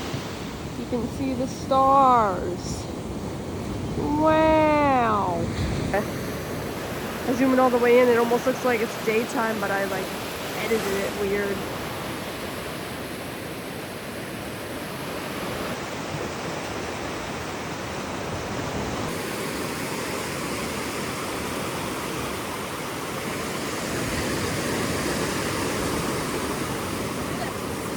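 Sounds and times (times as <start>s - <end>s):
waves breaking on beach: 0.0s - 27.9s.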